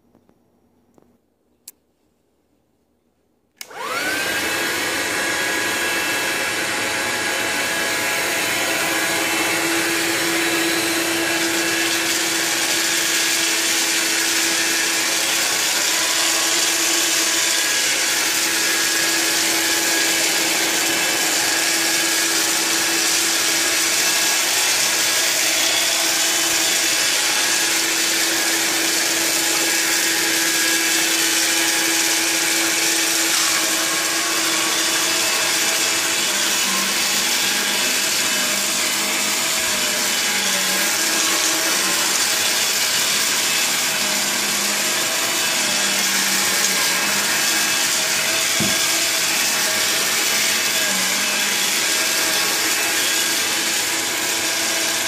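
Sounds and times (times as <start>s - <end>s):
cordless vacuum running: 3.6s - 55.0s.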